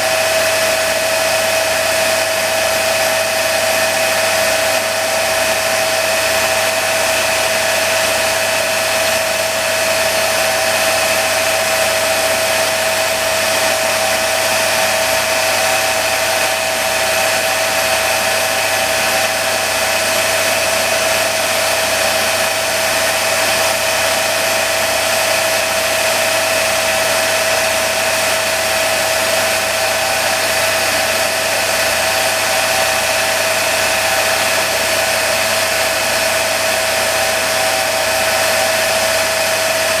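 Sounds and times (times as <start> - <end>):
grinding machine whining: 0.0 - 40.0.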